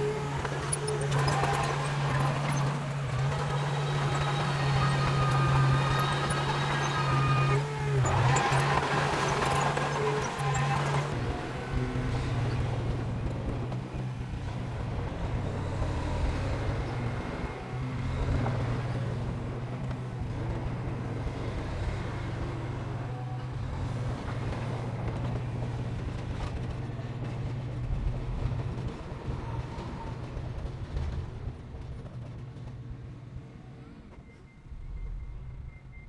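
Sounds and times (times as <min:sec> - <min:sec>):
heavy diesel machinery drone: 0:00.0 - 0:31.8.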